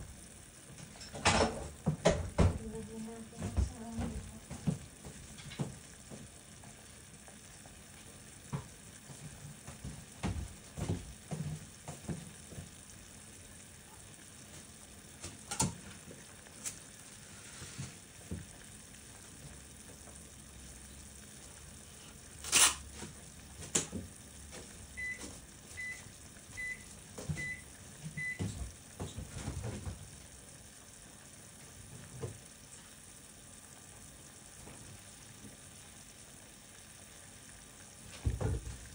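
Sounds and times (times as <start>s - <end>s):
pot simmering and bubbling: 0.0s - 38.9s.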